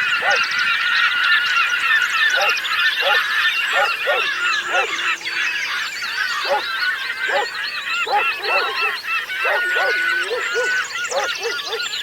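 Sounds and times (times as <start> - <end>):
low honk-like bird calls: 0.0 - 1.2, 1.8 - 12.0
flock of birds calling: 0.0 - 12.0.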